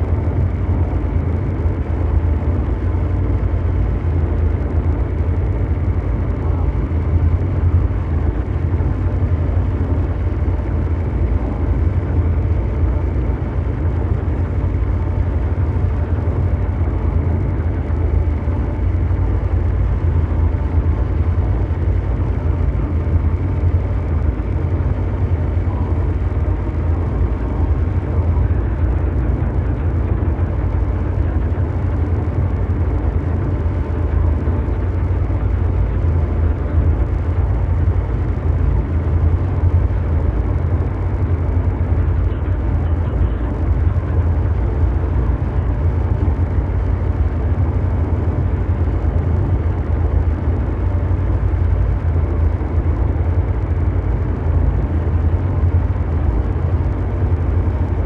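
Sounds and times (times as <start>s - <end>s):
deep mechanical rumble: 0.0s - 58.0s
even hum: 0.0s - 58.0s.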